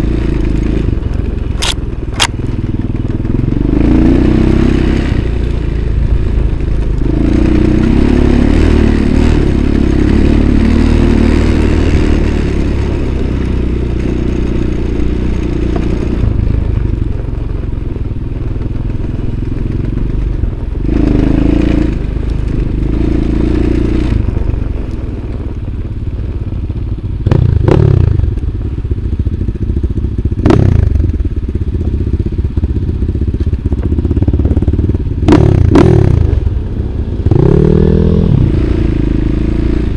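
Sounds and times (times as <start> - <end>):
motorcycle rev blips: 0.0 - 25.8, 26.6 - 39.9
off-road motorcycle engine: 0.0 - 39.9.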